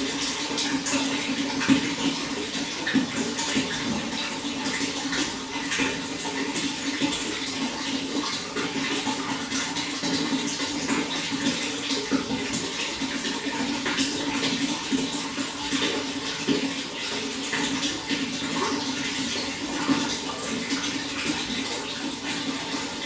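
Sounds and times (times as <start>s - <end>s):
running water splashing: 0.0s - 23.0s.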